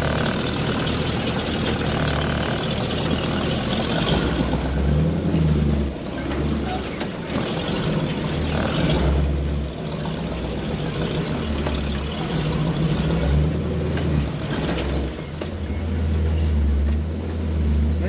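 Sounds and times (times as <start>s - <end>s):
off-road vehicle engine droning: 0.0s - 18.0s
road and wind noise: 0.0s - 18.0s.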